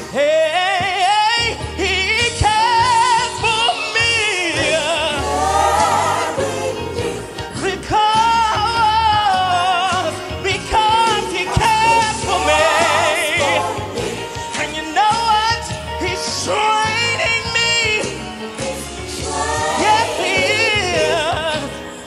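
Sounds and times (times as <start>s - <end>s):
man singing gospel: 0.0s - 5.4s, 6.7s - 19.2s, 19.8s - 22.0s
steady bass line: 0.0s - 21.9s
band accompaniment: 0.0s - 22.0s.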